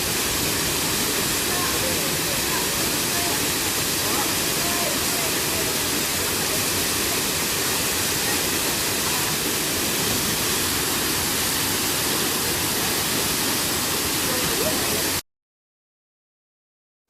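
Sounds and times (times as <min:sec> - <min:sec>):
waterfall pouring over rocks: 0:00.0 - 0:15.2.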